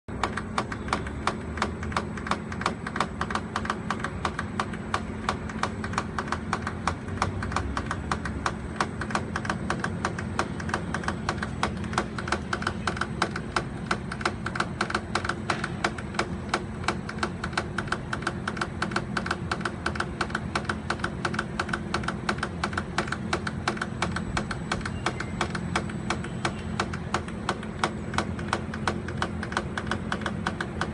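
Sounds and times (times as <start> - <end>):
air conditioner condenser humming: 0.1 - 30.9
fast ticking knock: 0.1 - 30.9.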